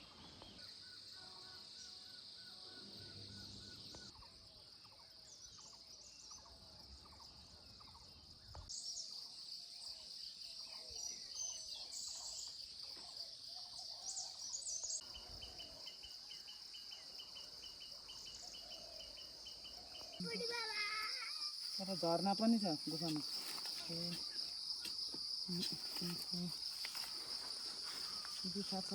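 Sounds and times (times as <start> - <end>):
insect drone: 0.0 - 28.9.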